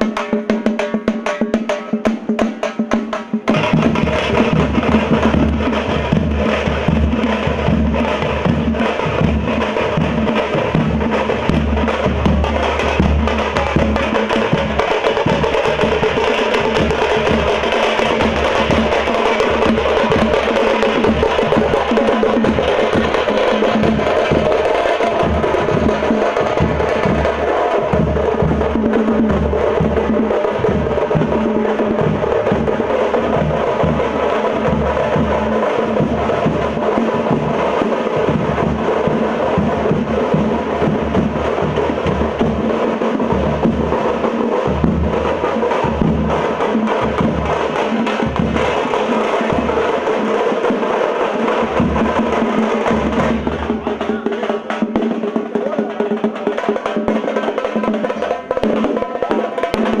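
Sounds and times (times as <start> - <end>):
frame drums beaten with sticks: 0.0 - 60.0.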